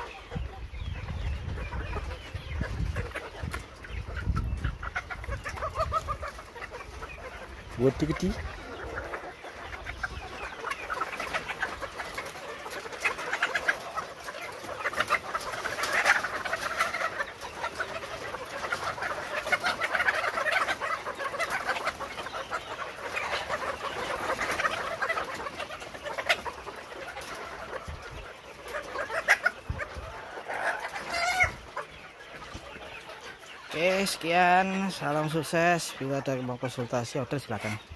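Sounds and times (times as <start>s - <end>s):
hens clucking and calling: 0.0s - 37.9s.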